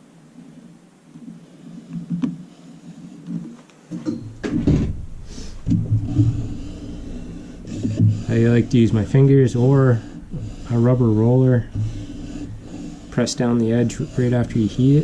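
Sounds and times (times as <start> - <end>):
faint low hum: 0.0 - 15.0
handling thumps and rubbing: 1.9 - 15.0.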